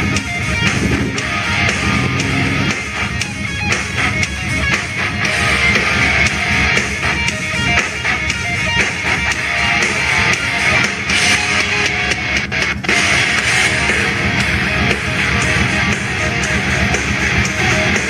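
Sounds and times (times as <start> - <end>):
loud guitar music from speakers: 0.0 - 18.0.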